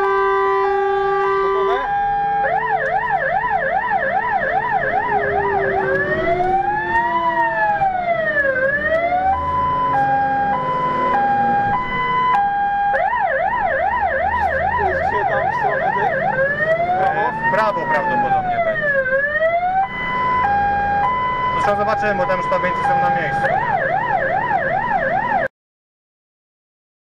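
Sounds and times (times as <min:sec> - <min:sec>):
fire engine siren: 0:00.0 - 0:25.5
truck engine running: 0:01.8 - 0:24.7.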